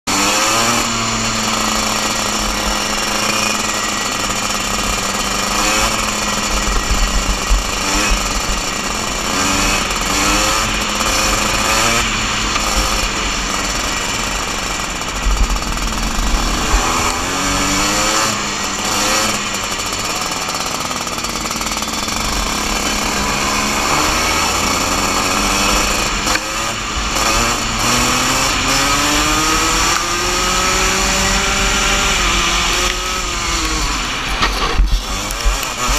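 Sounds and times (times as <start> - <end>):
kart engine buzzing: 0.1 - 35.9.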